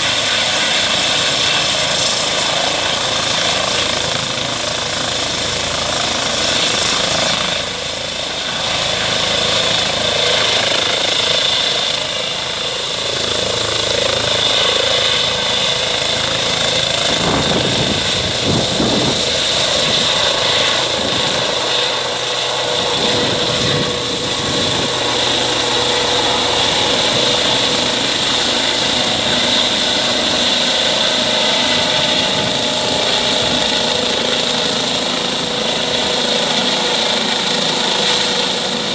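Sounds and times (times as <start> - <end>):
helicopter engine whine: 0.0 - 38.9
helicopter rotor noise: 0.0 - 38.9.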